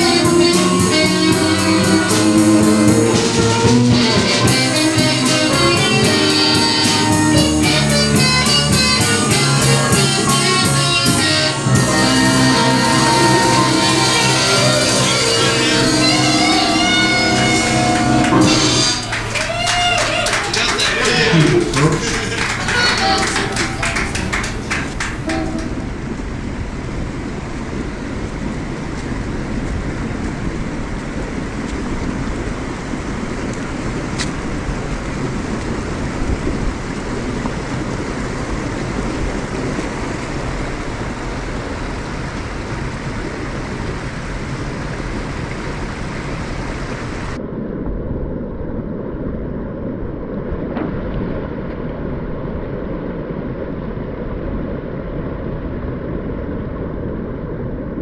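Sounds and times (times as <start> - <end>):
water rushing over a weir: 0.0 - 58.0
wind buffeting microphone: 0.0 - 58.0.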